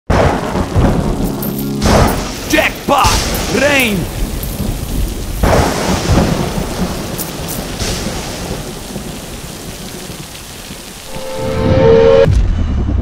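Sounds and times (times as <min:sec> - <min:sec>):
sharp thunder crack: 0:00.1 - 0:11.1
thunder rumbling: 0:00.1 - 0:13.0
rain hiss: 0:00.2 - 0:12.2.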